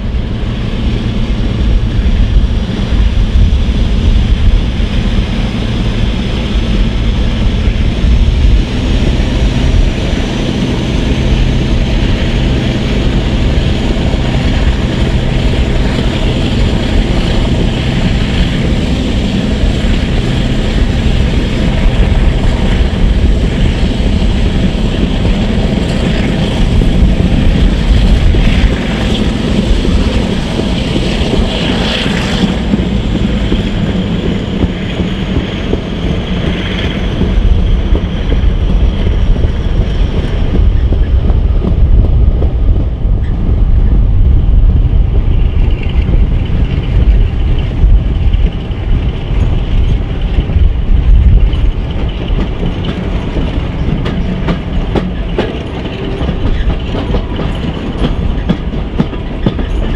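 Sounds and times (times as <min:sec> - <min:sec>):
train wheels clickety-clack: 0:00.0 - 0:59.9
wind rushing: 0:00.0 - 0:59.9.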